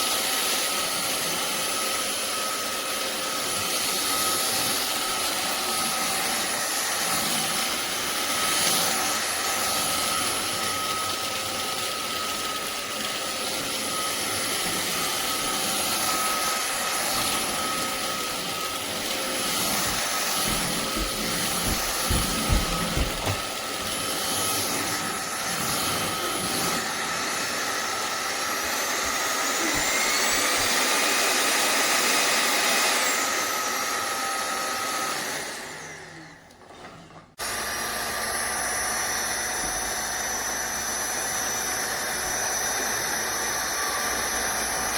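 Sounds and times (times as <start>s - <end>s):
stick vacuum whining: 0.0s - 44.9s.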